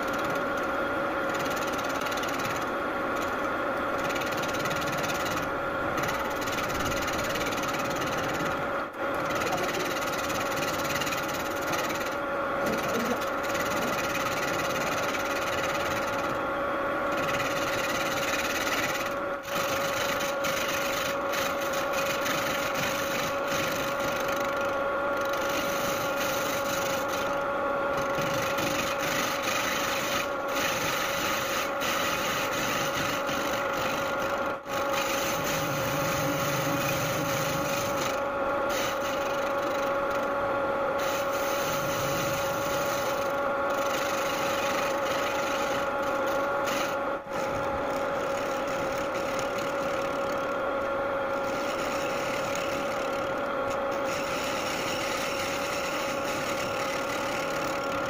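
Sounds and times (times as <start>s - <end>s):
lathe humming: 0.0s - 58.0s
cutting tool scraping metal: 1.3s - 3.4s, 4.0s - 16.4s, 17.0s - 40.4s, 41.0s - 58.0s.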